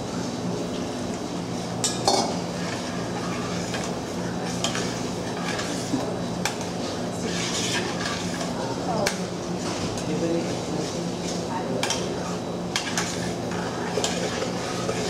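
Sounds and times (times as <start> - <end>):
steady low hum: 0.0 - 15.0
utensils clinking on dishes: 1.8 - 15.0.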